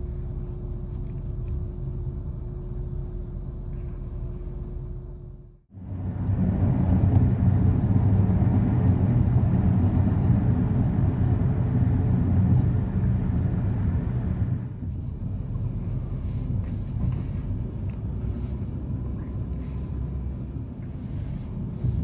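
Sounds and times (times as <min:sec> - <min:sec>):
diesel engine drone: 0:00.0 - 0:22.0
wheels rumbling on rails: 0:00.0 - 0:22.0.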